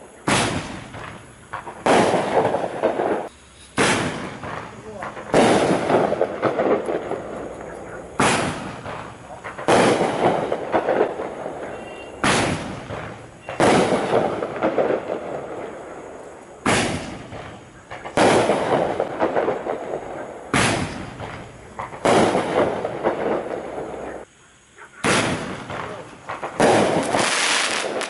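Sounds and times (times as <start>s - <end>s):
firework launch pops: 0.0s - 15.7s, 16.6s - 24.0s, 25.0s - 28.0s
firework bursts crackling: 0.0s - 28.0s.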